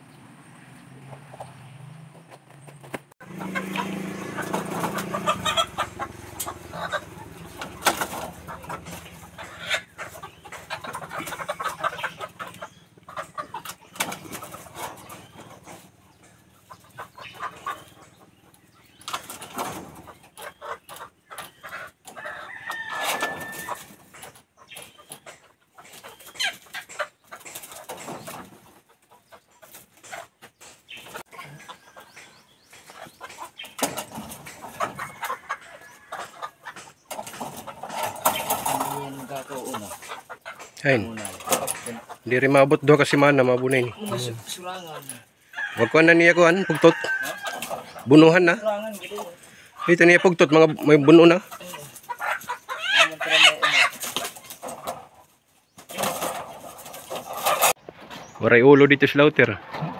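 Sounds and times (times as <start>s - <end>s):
hens clucking and calling: 0.0s - 59.9s
knocks and rattles of cages: 1.0s - 45.2s, 45.9s - 58.4s.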